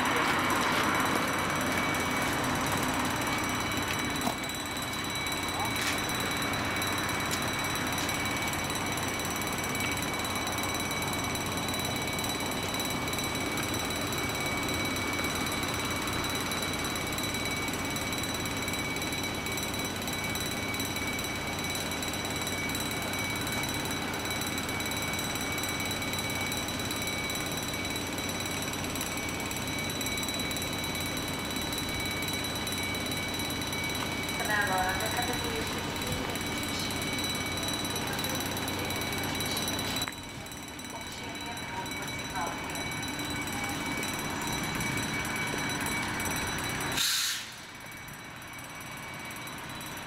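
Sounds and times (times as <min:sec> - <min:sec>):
level crossing warning bell: 0:00.0 - 0:50.0.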